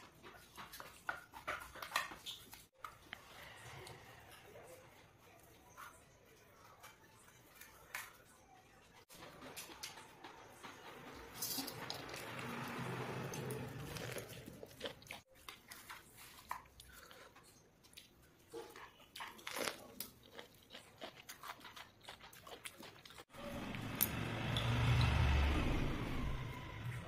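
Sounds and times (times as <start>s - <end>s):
food being chewed and crunched: 0.0s - 8.4s, 9.1s - 23.8s.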